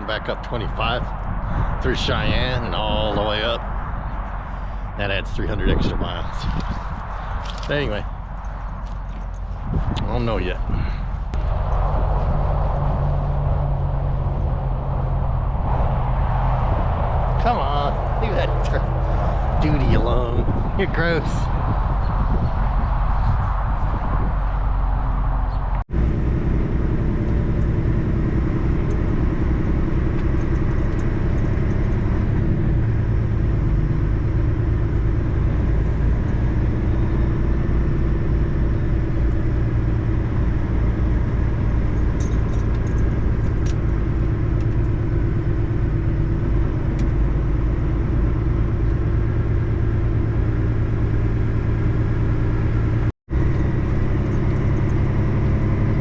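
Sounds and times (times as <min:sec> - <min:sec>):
road noise: 0:00.0 - 0:56.0
truck engine rumble: 0:00.0 - 0:56.0.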